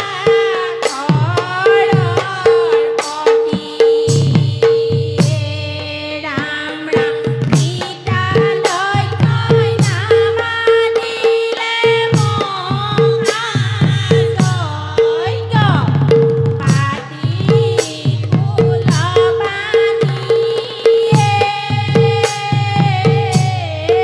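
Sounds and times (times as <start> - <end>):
barrel drum beating: 0.0 - 24.0
women singing together: 0.0 - 24.0.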